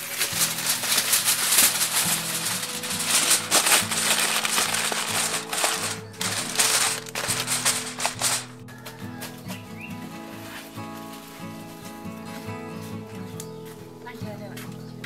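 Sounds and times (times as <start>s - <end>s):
aluminium foil crinkling: 0.0s - 13.1s
background music: 0.0s - 15.0s.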